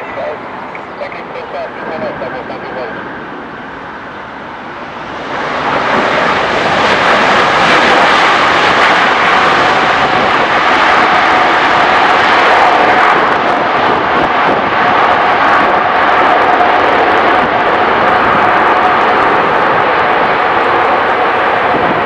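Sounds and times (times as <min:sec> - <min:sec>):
jet engines running with whine: 0:00.0 - 0:22.0.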